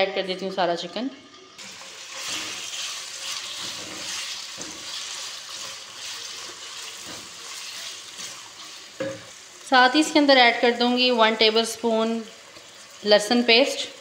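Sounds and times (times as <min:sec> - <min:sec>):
chicken sizzling in hot oil: 0:01.6 - 0:14.0.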